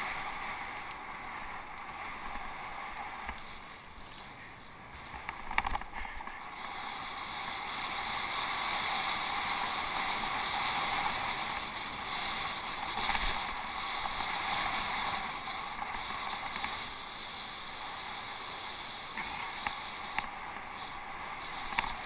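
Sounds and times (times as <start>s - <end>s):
bicycle tyres rolling: 0.0s - 22.0s.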